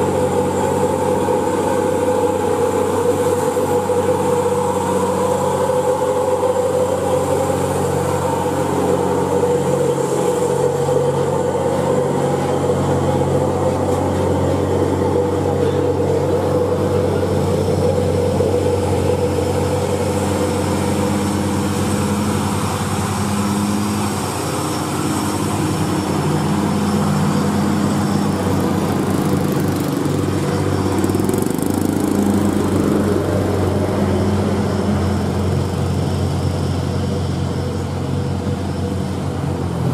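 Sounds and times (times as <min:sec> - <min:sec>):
heavy diesel trucks labouring uphill: 0:00.0 - 0:39.9.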